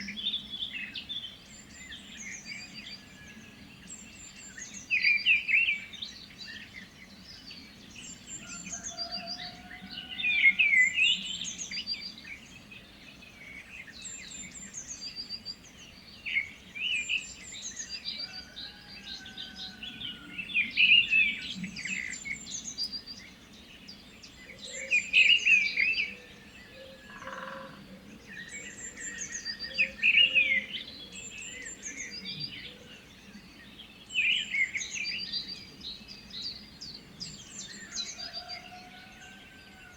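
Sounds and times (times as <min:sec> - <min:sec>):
faint outdoor ambience: 0:00.0 - 0:39.9
songbirds singing: 0:00.0 - 0:39.9.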